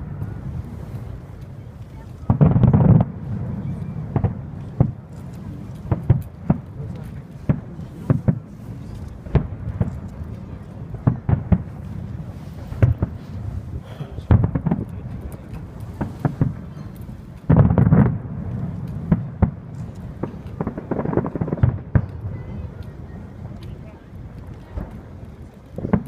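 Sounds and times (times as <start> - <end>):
fireworks bangs and pops: 0.0 - 26.0.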